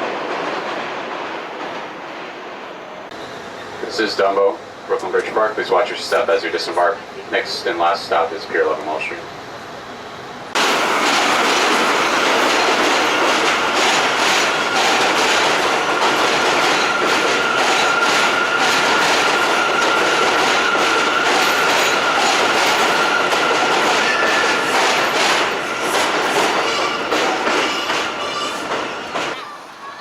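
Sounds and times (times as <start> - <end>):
subway train wheels clacking: 0.0 - 30.0.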